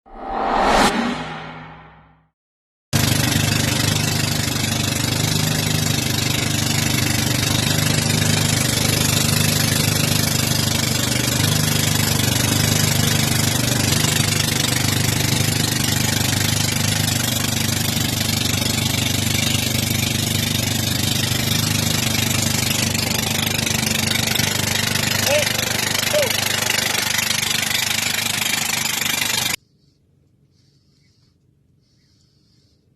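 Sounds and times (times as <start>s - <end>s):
boat engine running: 3.0s - 29.6s.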